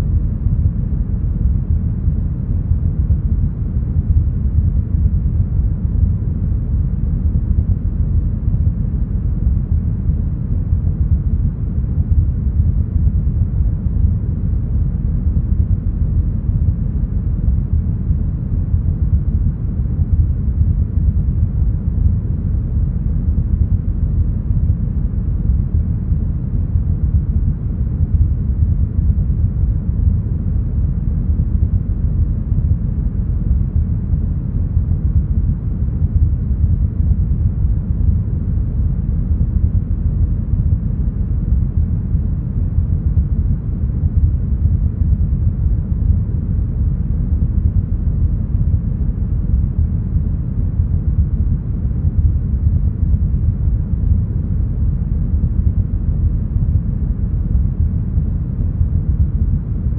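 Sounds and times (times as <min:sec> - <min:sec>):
brown noise low rumble: 0:00.0 - 0:59.9.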